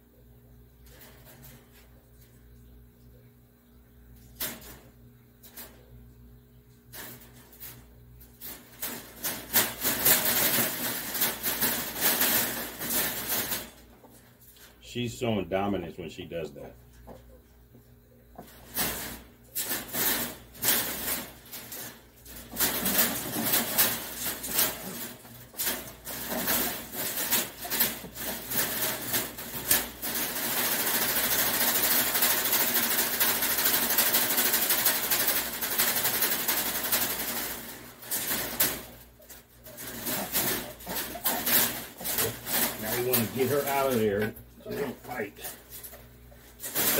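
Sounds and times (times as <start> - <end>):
rabbits scrabbling on wire mesh: 0.6 - 46.9
wire cage rattling: 0.8 - 1.9, 4.2 - 6.1, 6.7 - 14.8, 18.4 - 46.9.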